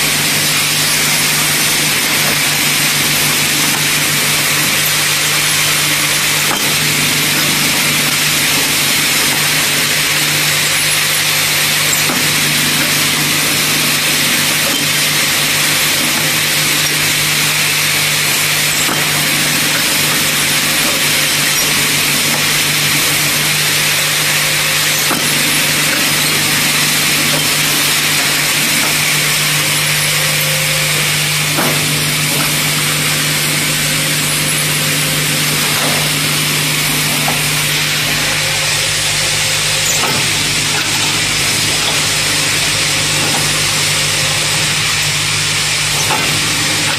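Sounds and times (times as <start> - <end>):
loud machining noise: 0.0 - 46.9
motor hum: 0.0 - 46.9.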